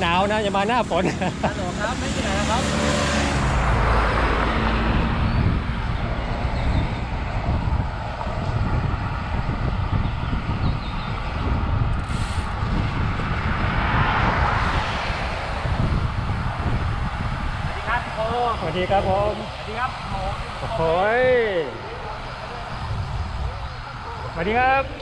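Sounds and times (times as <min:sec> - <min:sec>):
road noise: 0:00.0 - 0:25.0
wind rumbling over microphone: 0:00.0 - 0:25.0.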